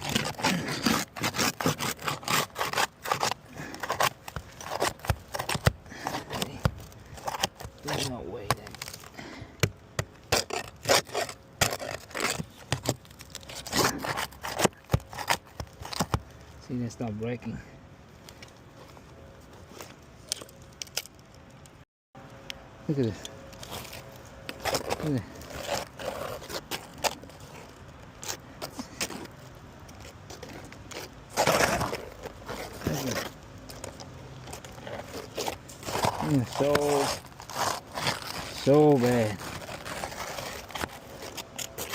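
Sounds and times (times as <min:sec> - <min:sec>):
roof shingle scraping and crackling: 0:00.0 - 0:17.6, 0:23.0 - 0:41.9.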